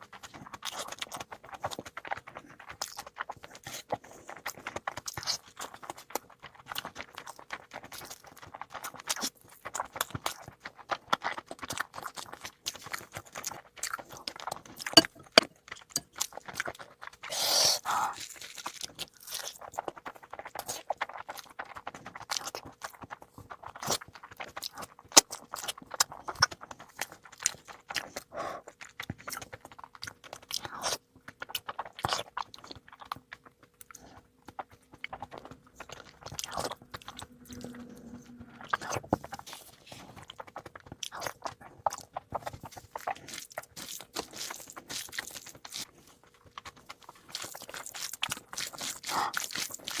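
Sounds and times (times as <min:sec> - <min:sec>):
chewing and crunching food: 0:00.0 - 0:50.0.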